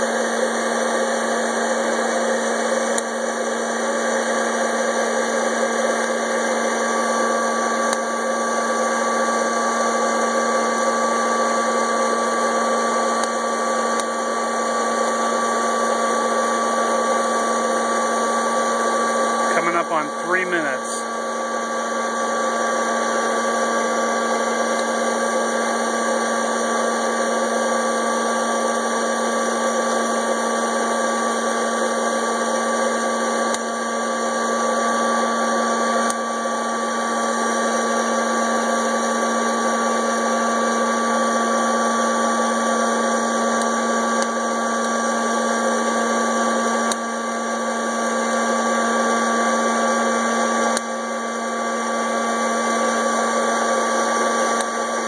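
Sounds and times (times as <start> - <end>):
popcorn popper whirring: 0.0 - 55.0.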